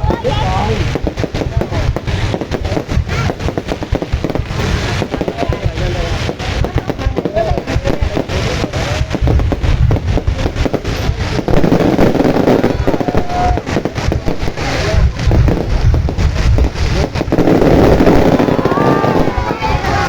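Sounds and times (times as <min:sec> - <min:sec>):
deep continuous rumble: 0:00.0 - 0:20.0
fireworks crackling bangs: 0:00.0 - 0:20.0.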